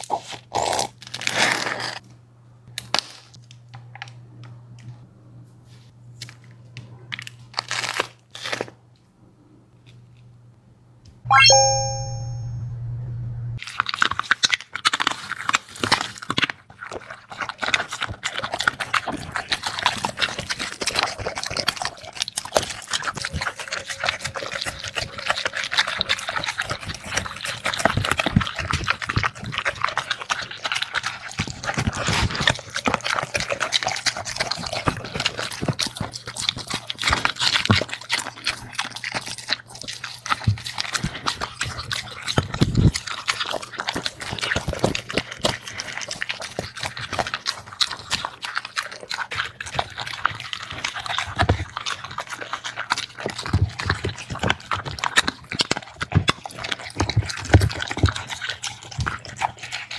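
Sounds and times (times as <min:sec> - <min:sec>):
dog eating noisily: 0:00.0 - 0:02.0, 0:13.6 - 0:59.9.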